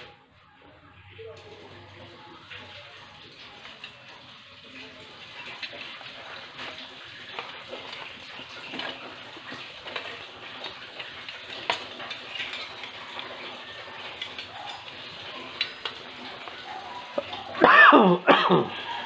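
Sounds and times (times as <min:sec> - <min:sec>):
fish frying in hot oil: 0:01.2 - 0:19.0.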